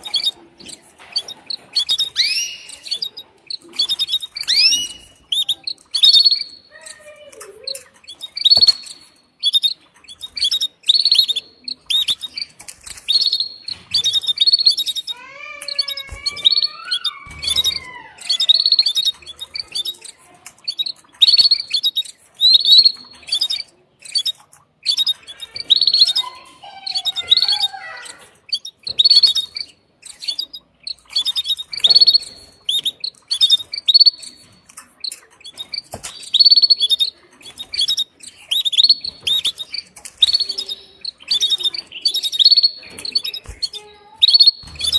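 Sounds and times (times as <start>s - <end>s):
canary chirping: 0.0s - 44.9s.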